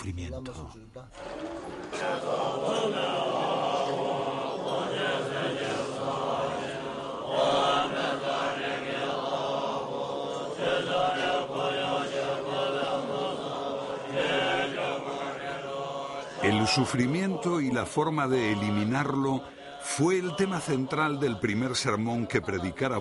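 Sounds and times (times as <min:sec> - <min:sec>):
several voices chanting together: 0:01.2 - 0:23.0.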